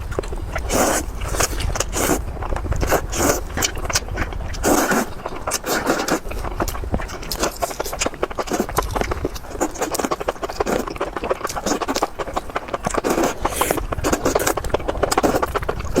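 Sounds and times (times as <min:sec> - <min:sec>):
food being bitten and chewed: 0:00.0 - 0:16.0.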